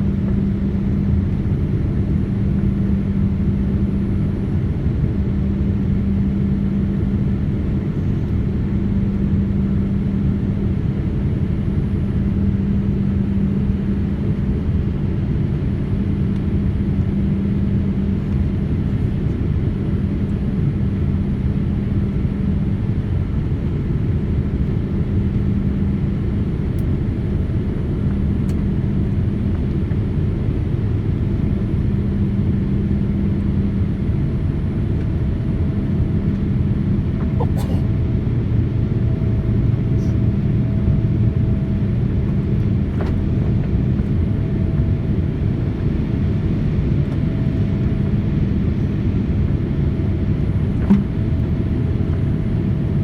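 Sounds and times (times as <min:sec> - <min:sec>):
airliner cabin engine rumble: 0:00.0 - 0:53.0.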